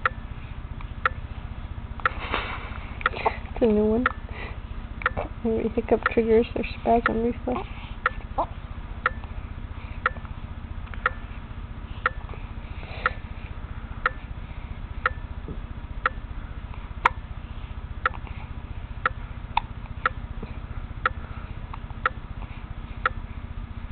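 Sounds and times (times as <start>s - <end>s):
low hum: 0.0s - 23.9s.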